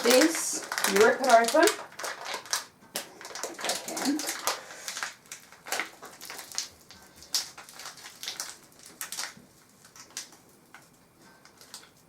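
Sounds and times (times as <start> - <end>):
packet being torn open: 0.0 - 10.8, 11.4 - 12.0
crinkling rustles: 0.0 - 12.0.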